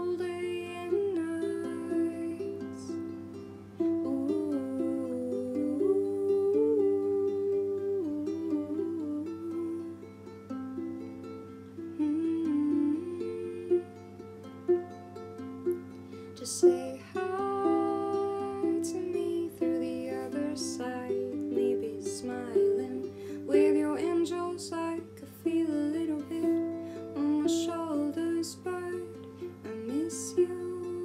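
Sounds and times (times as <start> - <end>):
woman singing: 0.0 - 3.2, 3.8 - 10.3, 11.9 - 14.2, 16.3 - 31.0
ukulele strumming: 0.0 - 31.0.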